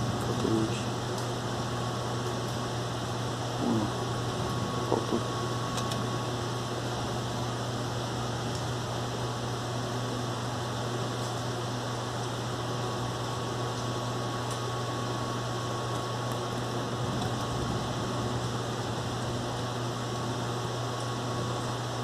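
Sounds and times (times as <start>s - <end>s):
low hum: 0.0s - 20.3s
rain hissing: 0.0s - 21.6s.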